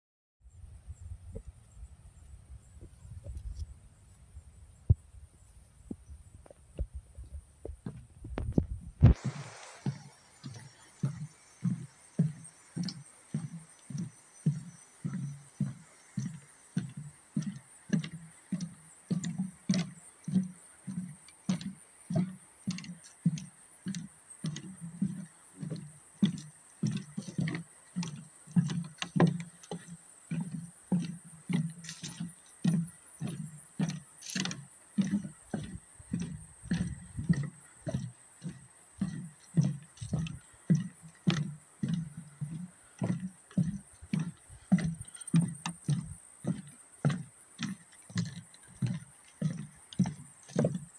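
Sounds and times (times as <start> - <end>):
footsteps on wooden boardwalk: 2.8 - 3.7, 4.8 - 50.9.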